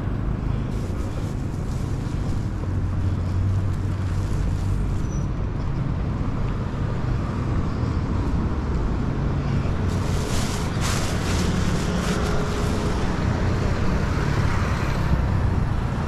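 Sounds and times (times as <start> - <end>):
low engine hum: 0.0 - 16.0
road noise: 0.0 - 16.0.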